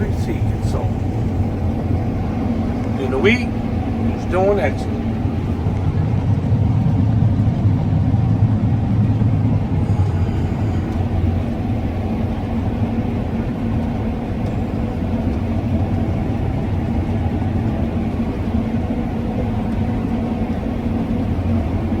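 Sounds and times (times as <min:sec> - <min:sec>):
combine harvester engine drone: 0:00.0 - 0:22.0.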